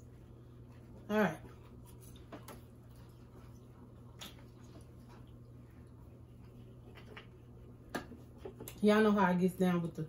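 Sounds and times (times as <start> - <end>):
low steady hum: 0.0 - 10.0
faint mouth eating noises: 0.8 - 8.8.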